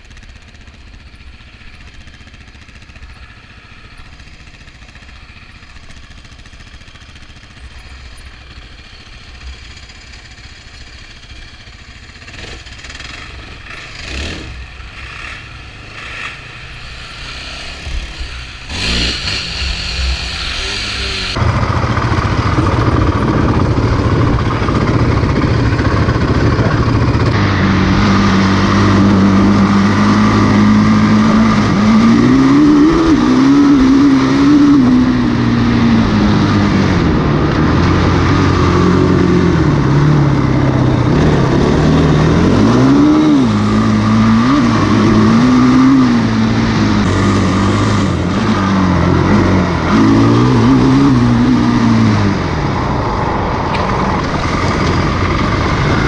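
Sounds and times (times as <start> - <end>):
quad engine revving: 2.0 - 56.0.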